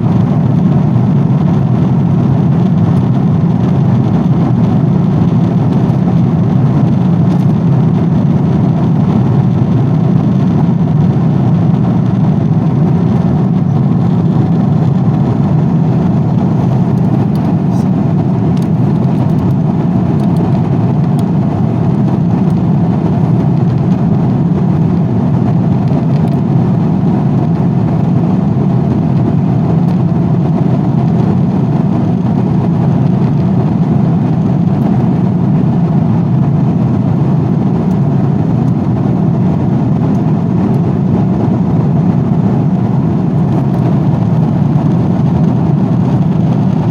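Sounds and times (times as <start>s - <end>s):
airplane engines droning: 0.0s - 46.9s.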